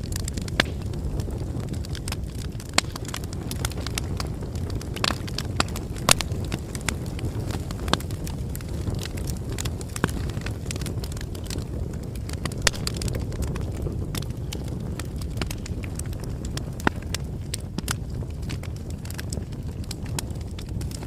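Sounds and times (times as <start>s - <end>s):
campfire flames rumbling: 0.0s - 21.0s
fire crackling and popping: 0.0s - 21.0s.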